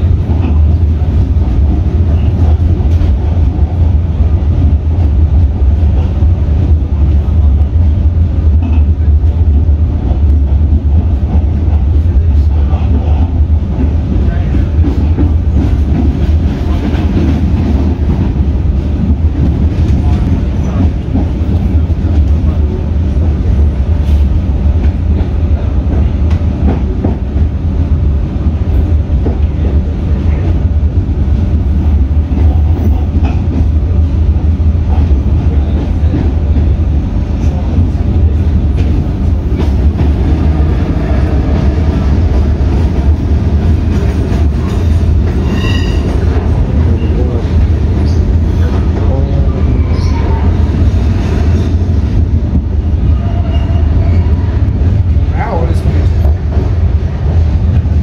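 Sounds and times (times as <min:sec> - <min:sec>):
low rumble of train wheels: 0:00.0 - 0:58.0.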